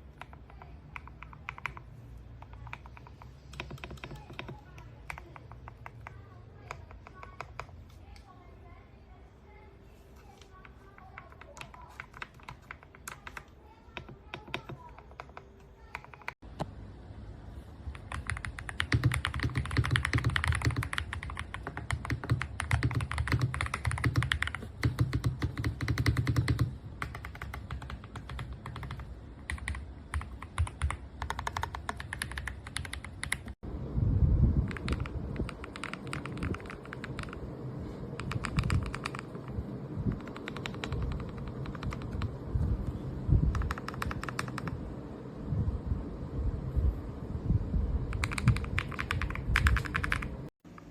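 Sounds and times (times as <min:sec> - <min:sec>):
mechanical keyboard typing: 0:00.0 - 0:07.9, 0:10.4 - 0:16.4, 0:17.9 - 0:33.6, 0:34.6 - 0:37.5, 0:38.1 - 0:42.4, 0:43.4 - 0:44.8, 0:48.1 - 0:50.9.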